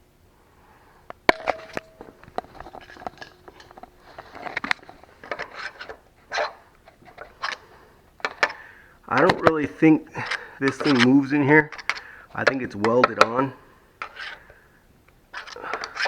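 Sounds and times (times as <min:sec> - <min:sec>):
hand tools clicking and clinking: 0:01.2 - 0:14.5, 0:15.4 - 0:16.0.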